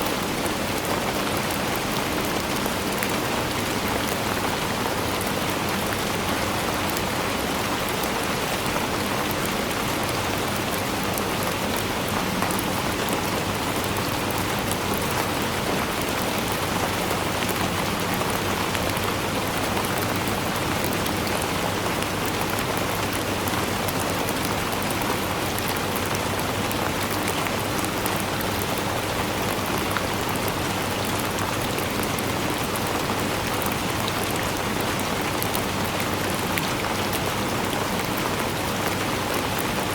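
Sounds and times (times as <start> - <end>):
raindrops pattering: 0.0 - 39.9.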